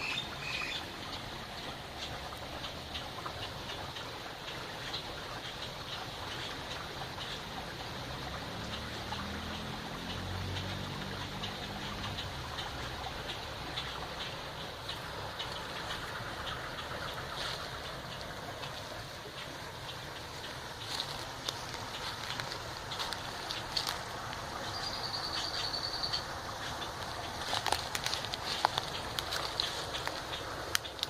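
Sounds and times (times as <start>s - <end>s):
river water running: 0.0s - 31.0s.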